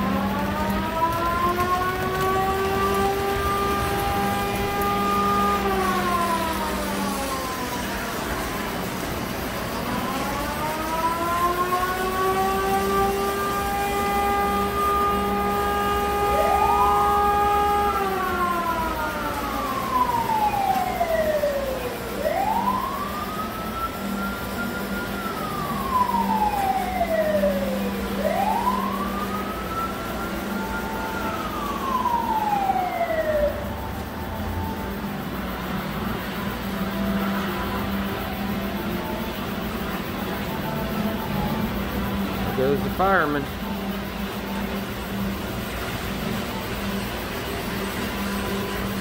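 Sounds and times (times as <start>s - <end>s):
fire engine siren: 0.0s - 49.0s
wailing siren: 0.0s - 49.0s.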